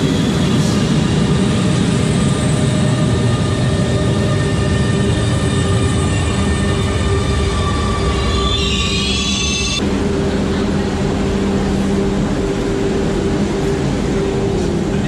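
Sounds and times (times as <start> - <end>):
metro train rumble and whine: 0.0 - 15.0.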